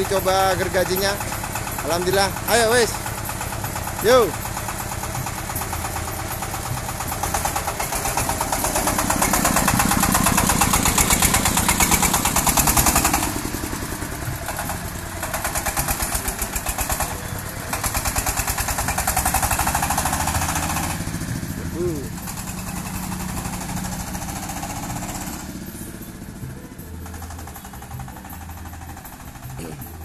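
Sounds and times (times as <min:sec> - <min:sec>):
diesel engine chugging: 0:00.0 - 0:30.0.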